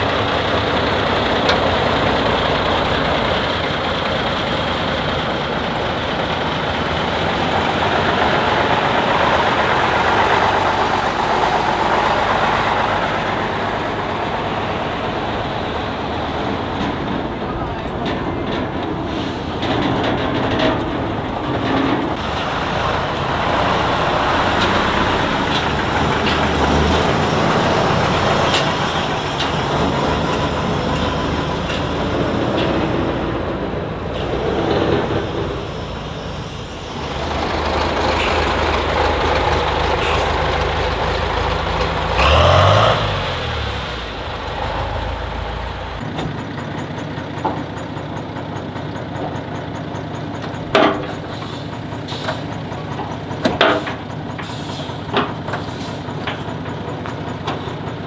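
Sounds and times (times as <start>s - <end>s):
heavy diesel trucks driving: 0.0s - 58.0s.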